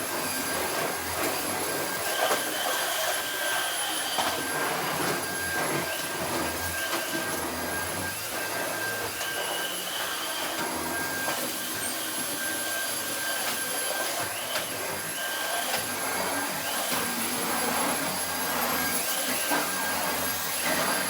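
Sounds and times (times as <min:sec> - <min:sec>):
vacuum cleaner motor whine: 0:00.0 - 0:21.0.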